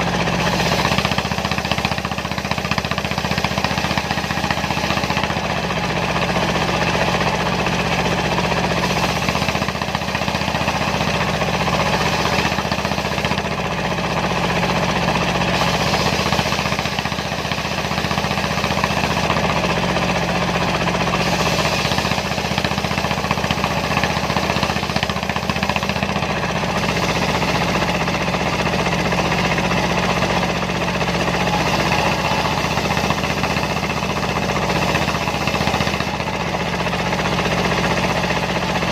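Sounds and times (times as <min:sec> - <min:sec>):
circular sawmill: 0:00.0 - 0:38.9
diesel engine running: 0:00.0 - 0:38.9.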